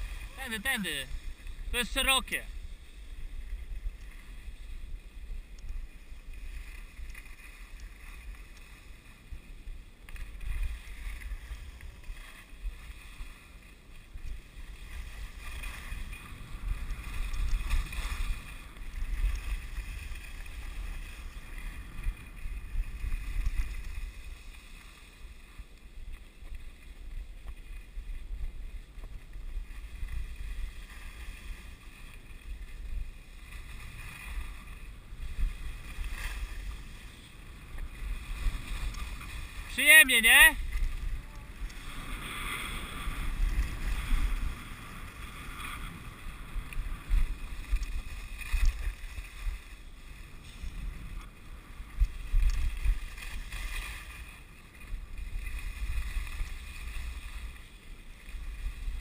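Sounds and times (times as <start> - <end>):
skis scraping on snow: 0.0 - 59.0.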